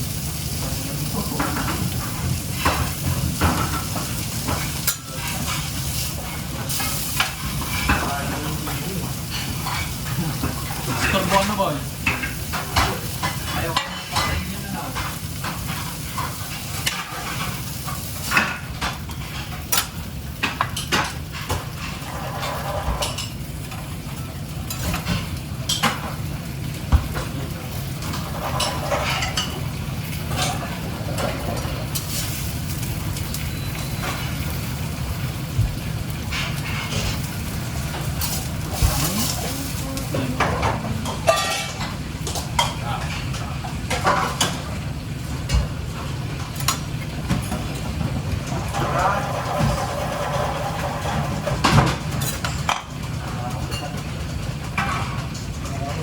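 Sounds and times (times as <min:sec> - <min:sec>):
food sizzling in a pan: 0:00.0 - 0:56.0
metal utensils clinking and scraping pans: 0:00.3 - 0:56.0.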